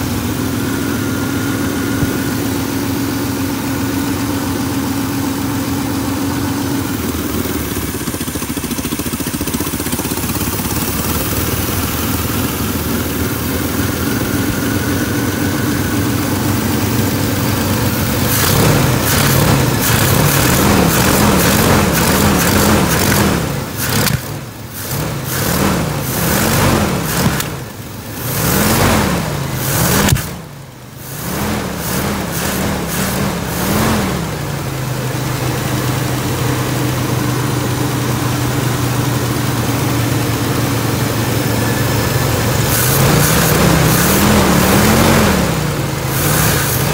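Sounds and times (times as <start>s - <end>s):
pickup engine idling: 0.0s - 28.5s, 29.2s - 46.9s.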